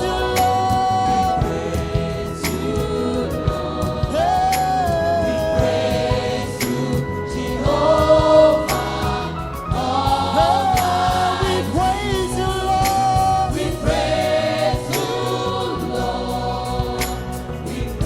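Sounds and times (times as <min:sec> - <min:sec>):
band accompaniment: 0:00.0 - 0:18.0
group of singers: 0:00.0 - 0:18.0
low bass line: 0:00.0 - 0:18.0
percussion hits: 0:00.0 - 0:18.0.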